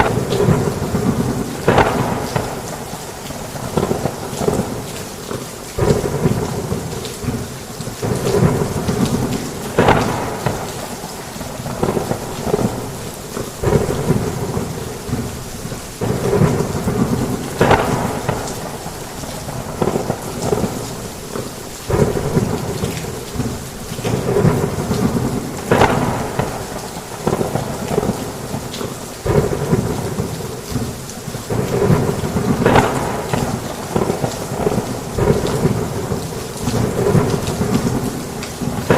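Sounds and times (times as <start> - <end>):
heavy rain: 0.0 - 38.9
thunder rumbling: 0.0 - 38.9.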